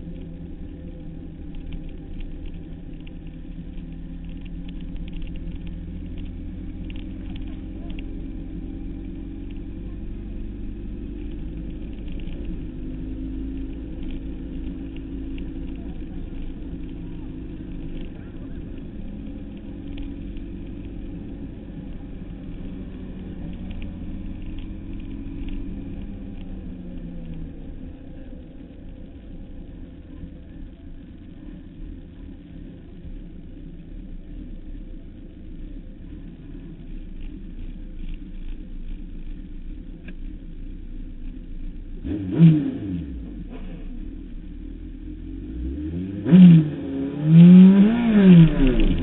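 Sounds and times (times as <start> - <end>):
motorcycle engine running: 0.0 - 45.4, 47.6 - 49.0.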